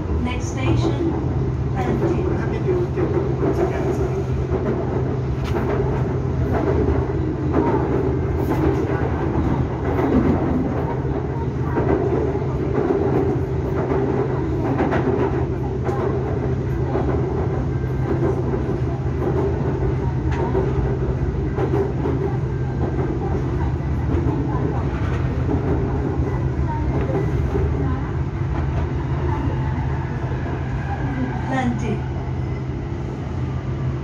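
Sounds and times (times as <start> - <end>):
train drone and rumble: 0.0 - 34.0.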